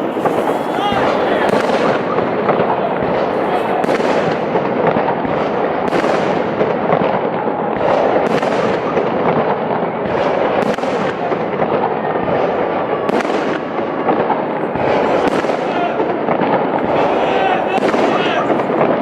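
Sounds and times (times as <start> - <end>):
firework bangs: 0.0 - 19.0
fireworks crackling: 0.0 - 19.0.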